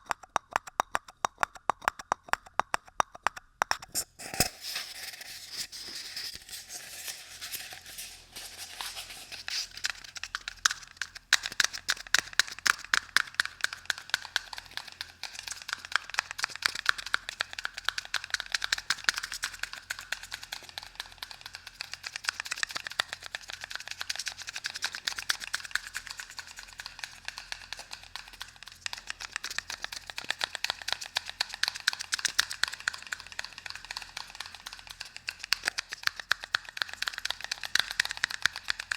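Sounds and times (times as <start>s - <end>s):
close-miked tapping and crackling: 0.0s - 4.5s, 8.3s - 38.9s.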